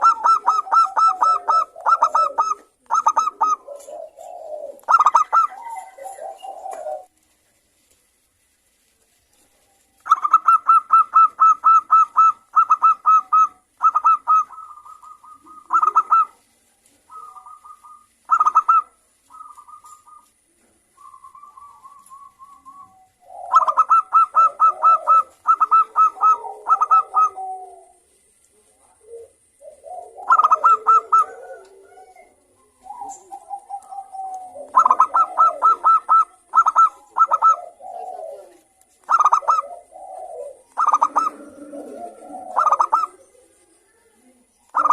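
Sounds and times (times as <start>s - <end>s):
doves high staccato calls: 0.0s - 7.1s, 10.0s - 16.4s, 17.1s - 20.4s, 21.0s - 28.1s, 29.1s - 31.9s, 32.7s - 43.5s, 44.6s - 44.9s
doves rolling coos: 0.0s - 44.9s.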